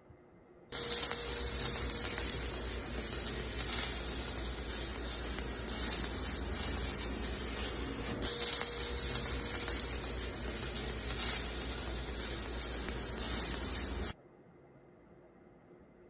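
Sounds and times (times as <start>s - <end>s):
welding arc crackling: 0.7s - 14.2s.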